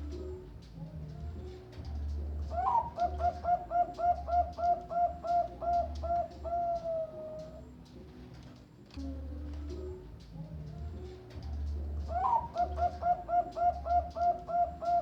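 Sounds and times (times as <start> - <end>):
dove cooing: 0.0 - 10.1, 10.9 - 15.0.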